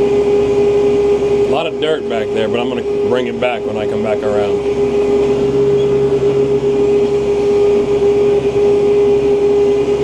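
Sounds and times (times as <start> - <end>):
tractor engine droning: 0.0 - 10.0.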